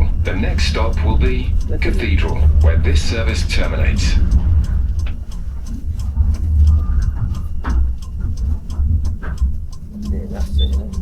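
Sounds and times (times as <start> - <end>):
train rumble inside cabin: 0.0 - 11.0.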